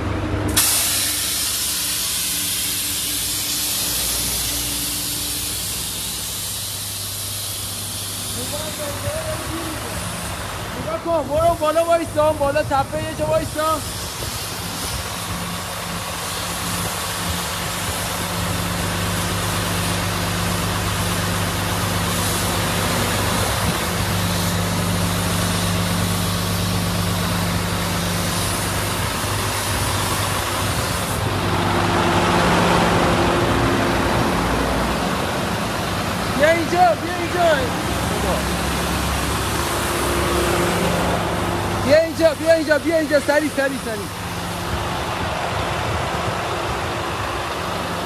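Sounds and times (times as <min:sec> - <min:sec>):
diesel truck engine humming: 0:00.0 - 0:48.0
rushing noise: 0:00.0 - 0:48.0.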